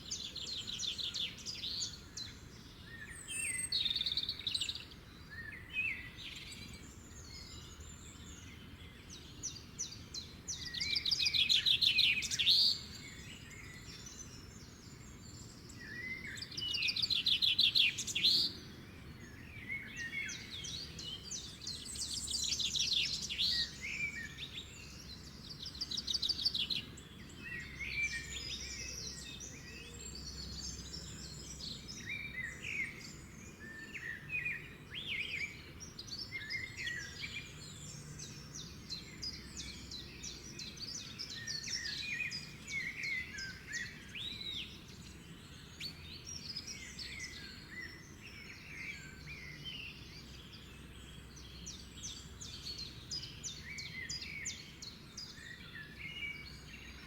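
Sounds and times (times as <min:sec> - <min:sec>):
outdoor background hiss: 0:00.0 - 0:57.0
songbirds chirping and trilling: 0:00.0 - 0:57.0.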